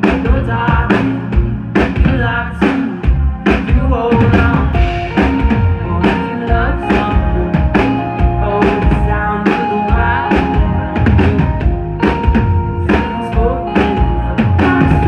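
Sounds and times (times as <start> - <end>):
drum kit beating: 0.0 - 15.0
sustained guitar and synth tones: 0.0 - 15.0
vocals: 0.0 - 15.0.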